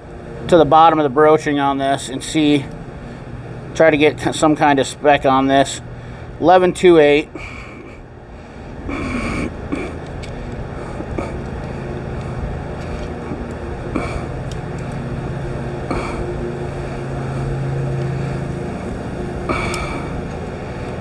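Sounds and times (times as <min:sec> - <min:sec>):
low motor drone: 0:00.0 - 0:21.0.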